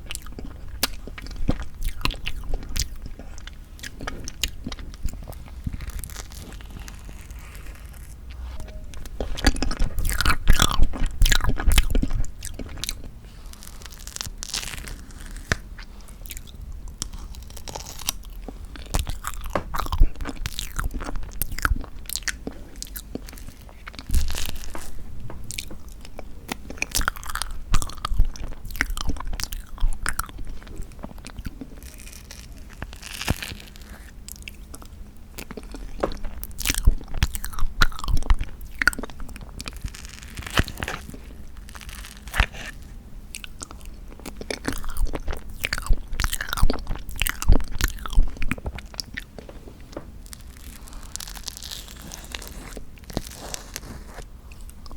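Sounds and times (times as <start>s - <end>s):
biting and chewing: 0.0s - 54.9s.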